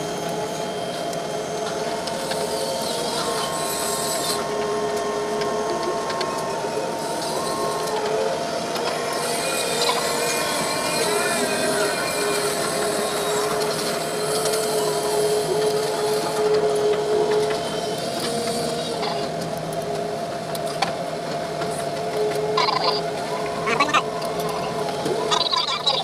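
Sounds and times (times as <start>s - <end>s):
crane drive machinery whine: 0.0s - 26.0s.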